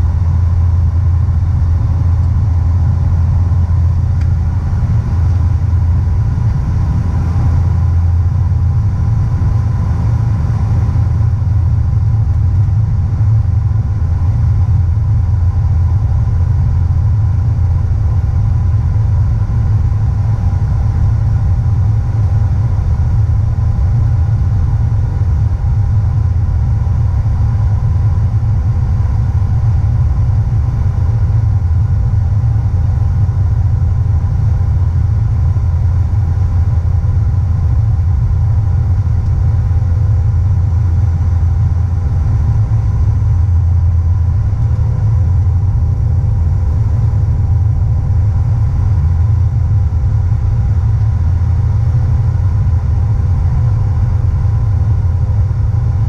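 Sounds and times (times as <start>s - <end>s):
propeller engine drone: 0.0s - 56.0s.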